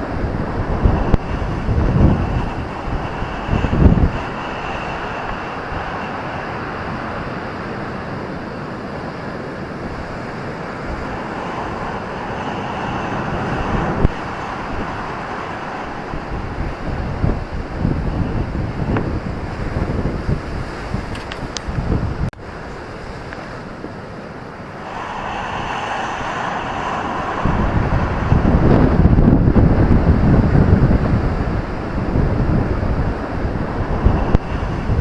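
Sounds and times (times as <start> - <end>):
ocean surf on a beach: 0.0 - 35.0
wind buffeting microphone: 0.0 - 35.0.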